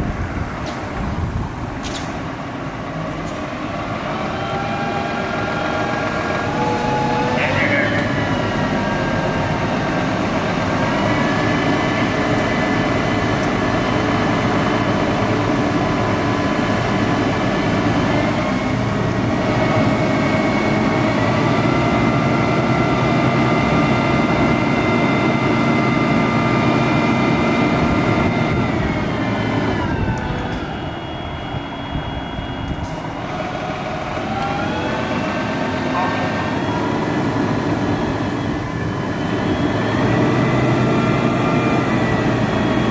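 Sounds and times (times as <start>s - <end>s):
truck engine running: 0.0s - 42.9s
hydraulic whine: 0.6s - 42.9s.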